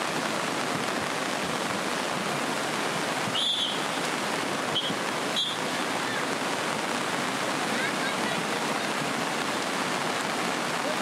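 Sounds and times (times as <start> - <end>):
turbulent river water rushing: 0.0 - 11.0.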